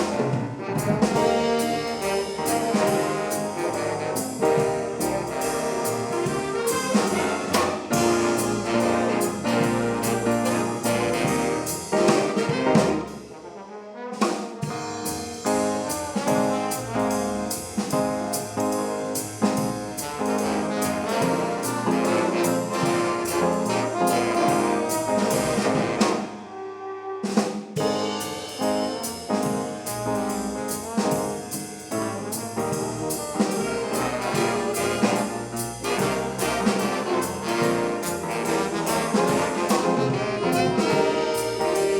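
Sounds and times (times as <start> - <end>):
swing band with brass and drums: 0.0 - 41.9.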